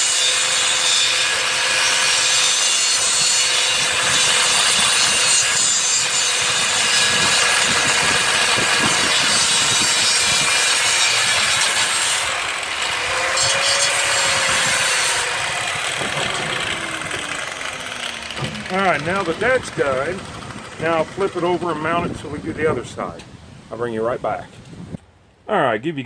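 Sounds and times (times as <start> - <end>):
grinder motor whine: 0.0 - 22.0
angle grinder grinding steel: 0.0 - 22.2.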